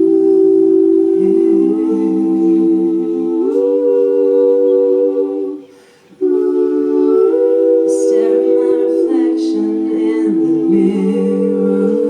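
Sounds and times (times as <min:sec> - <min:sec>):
vocal group humming chords: 0:00.0 - 0:12.0.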